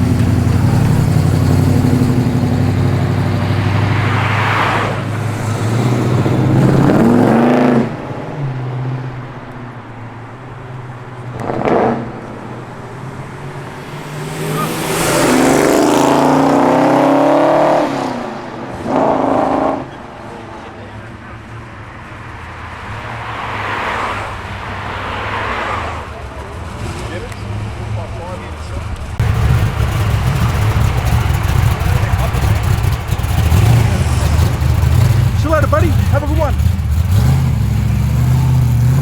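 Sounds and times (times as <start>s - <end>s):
muscle car engines revving: 0.0s - 39.0s.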